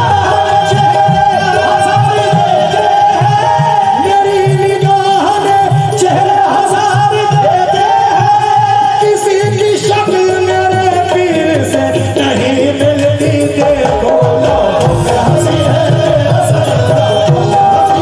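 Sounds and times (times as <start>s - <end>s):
harmonium: 0.0s - 18.0s
person singing: 0.0s - 18.0s
tabla: 0.0s - 18.0s.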